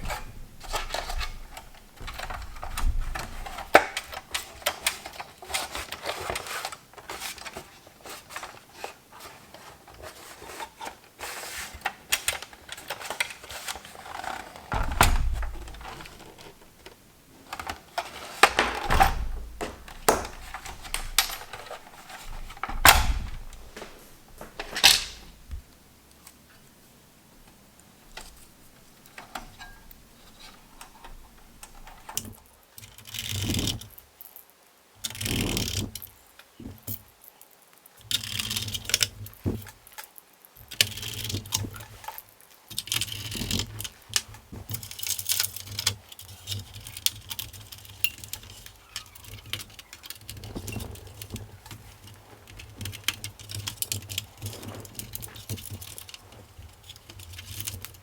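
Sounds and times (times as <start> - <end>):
small hard parts clattering: 0.0 - 25.6, 29.1 - 58.0.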